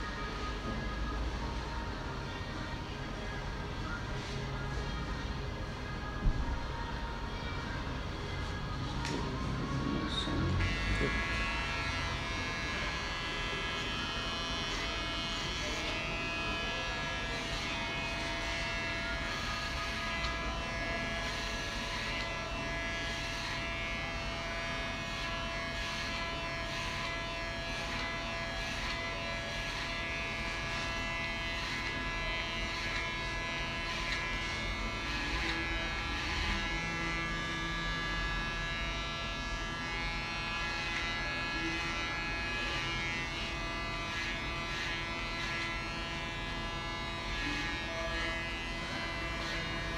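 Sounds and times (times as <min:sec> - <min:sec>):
electric hair clippers humming: 0:09.0 - 0:49.9.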